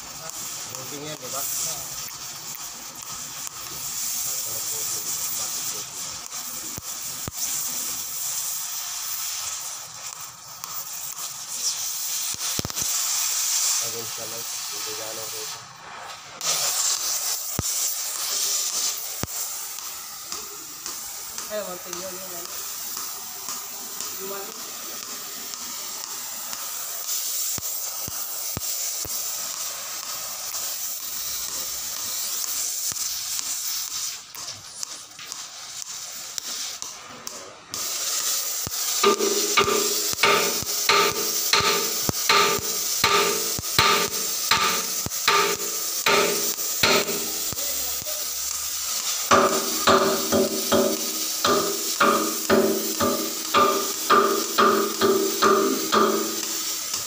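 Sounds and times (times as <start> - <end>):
cutting torch flame hissing: 0.0 - 57.0.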